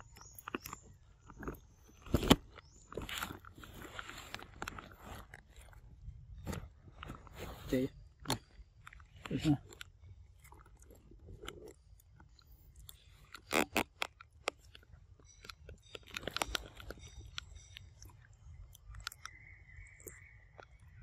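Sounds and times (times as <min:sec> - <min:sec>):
monkey chewing and biting fruit: 0:00.0 - 0:21.0.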